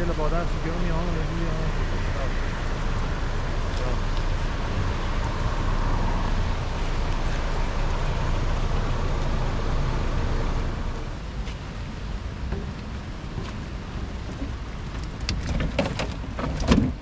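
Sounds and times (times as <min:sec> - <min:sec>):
floodwater rushing over rocks: 0:00.0 - 0:17.0
wind rumble on microphone: 0:00.0 - 0:17.0.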